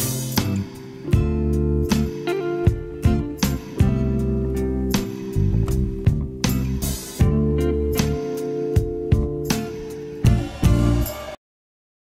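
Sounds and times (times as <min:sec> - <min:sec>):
plucked string music: 0:00.0 - 0:11.2.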